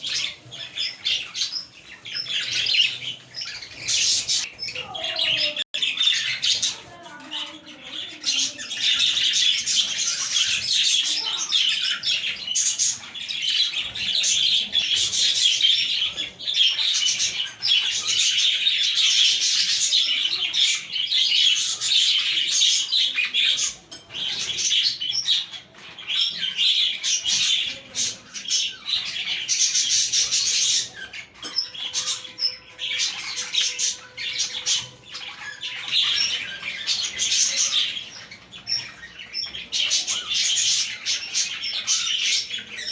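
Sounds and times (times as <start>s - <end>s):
parakeets chattering and chirping: 0.0s - 42.9s.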